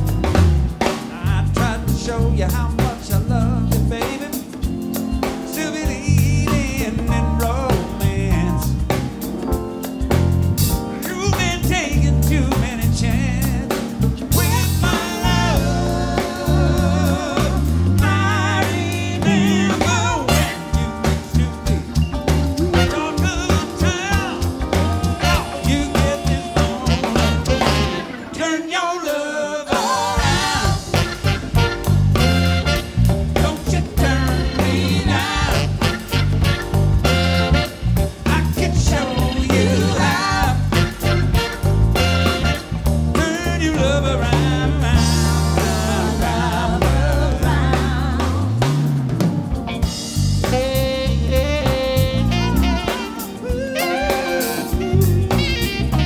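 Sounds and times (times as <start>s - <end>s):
bass guitar: 0.0s - 28.6s, 29.7s - 56.0s
live soul band playing: 0.0s - 56.0s
man singing lead: 0.8s - 9.2s, 10.8s - 49.0s, 50.4s - 56.0s.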